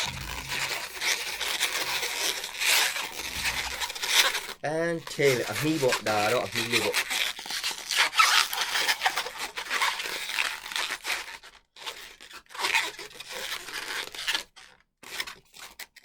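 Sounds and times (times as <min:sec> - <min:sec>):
rubber balloons rubbing scratchily: 0:00.0 - 0:14.3.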